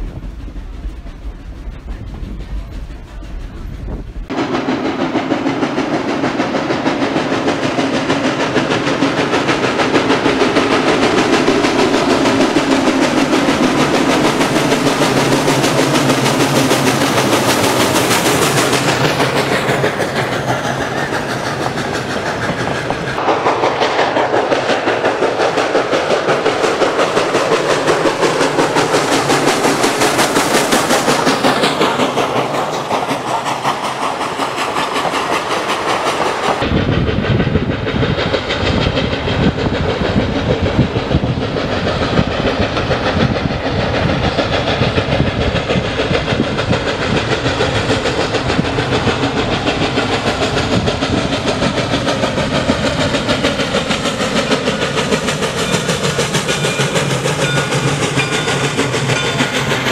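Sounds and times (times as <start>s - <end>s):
steam train passing: 0.0s - 59.9s
wheels clicking over rail joints: 5.2s - 59.9s.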